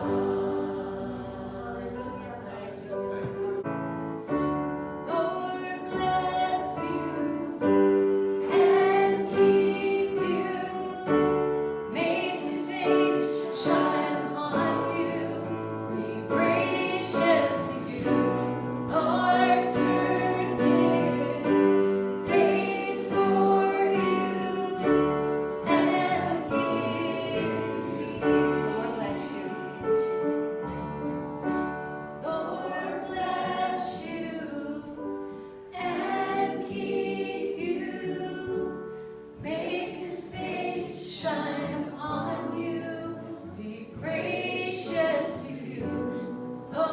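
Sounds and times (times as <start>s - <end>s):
group singing a hymn: 0.0s - 46.9s
piano accompaniment: 0.0s - 46.9s.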